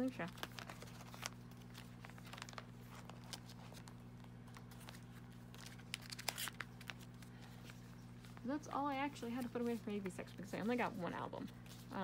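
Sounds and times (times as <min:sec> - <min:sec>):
paper and plastic sleeves rustling: 0:00.0 - 0:12.0
steady low hum: 0:00.0 - 0:12.0.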